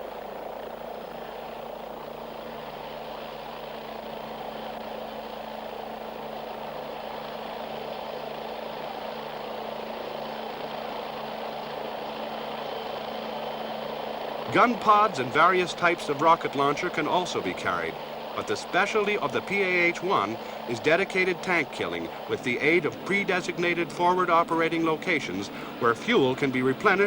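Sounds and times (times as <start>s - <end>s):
helicopter in flight: 0.0s - 27.0s.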